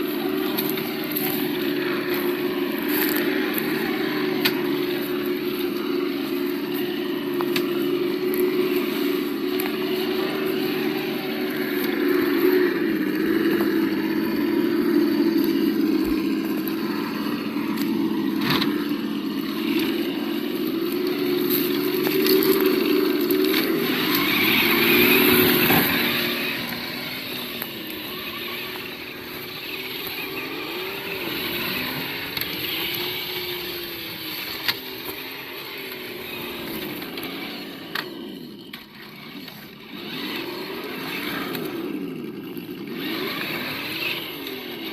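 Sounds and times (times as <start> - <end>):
simulated engine sound from speaker: 0.0 - 44.9.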